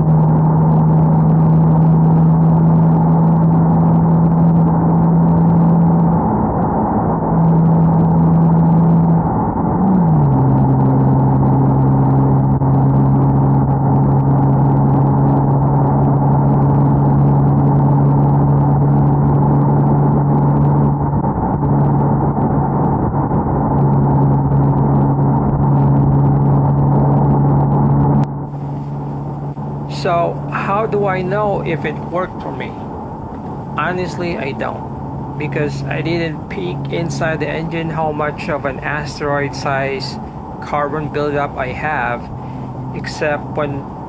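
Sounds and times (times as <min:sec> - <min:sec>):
car engine droning: 0:00.0 - 0:44.0.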